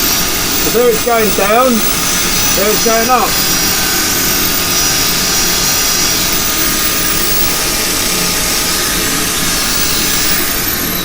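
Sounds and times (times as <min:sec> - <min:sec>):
sandpaper sanding hiss: 0:00.0 - 0:11.0
wood lathe whirring: 0:00.0 - 0:11.0.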